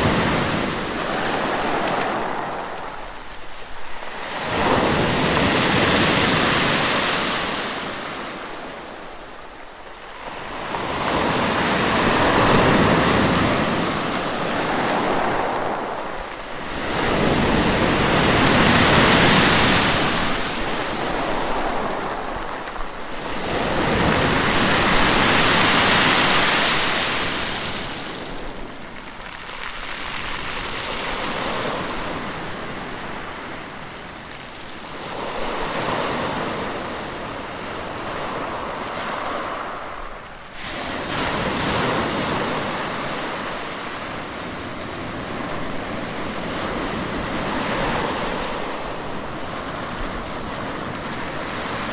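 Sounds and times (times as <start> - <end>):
sea waves washing onto shore: 0.0 - 51.9.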